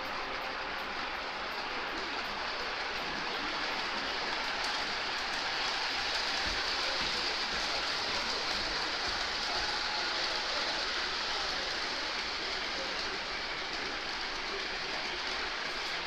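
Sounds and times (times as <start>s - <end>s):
model trains rolling on track: 0.0s - 16.0s.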